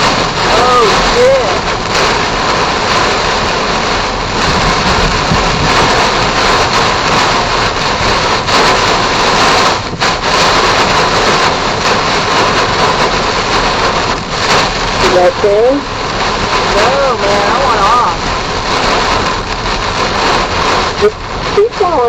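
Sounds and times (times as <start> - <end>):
heavy rain and wind on car: 0.0 - 22.0.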